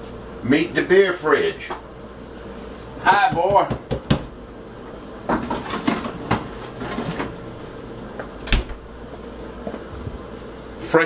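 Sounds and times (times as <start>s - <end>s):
refrigerator hum: 0.0s - 11.0s.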